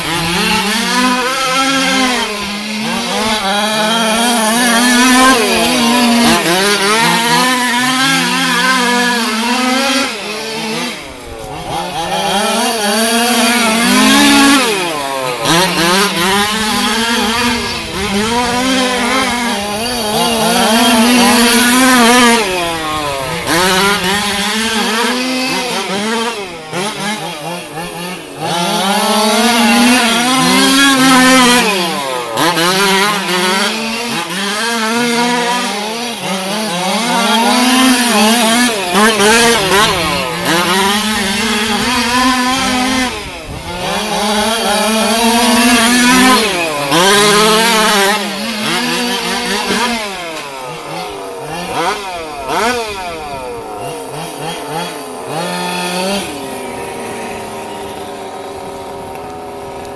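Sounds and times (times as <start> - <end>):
small two-stroke engines revving: 0.0 - 59.9.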